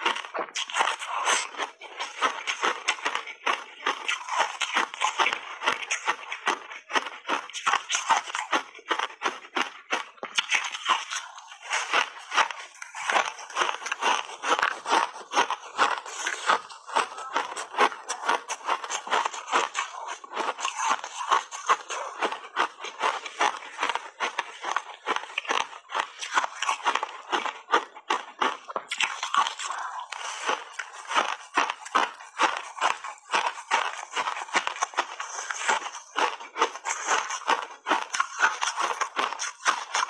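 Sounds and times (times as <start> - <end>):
ice being crunched and chewed: 0.0 - 40.0.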